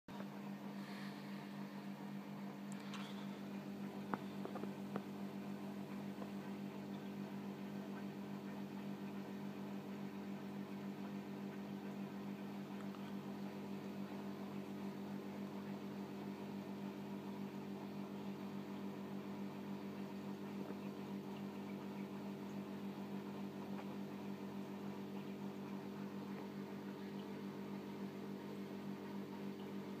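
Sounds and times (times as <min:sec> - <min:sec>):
low electrical hum: 0:00.1 - 0:30.0.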